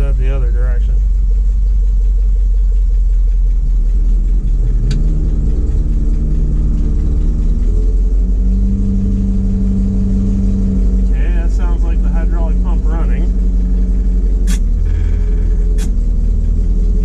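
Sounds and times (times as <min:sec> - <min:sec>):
hydraulic pump humming: 0:00.0 - 0:17.0
truck engine idling: 0:00.0 - 0:17.0.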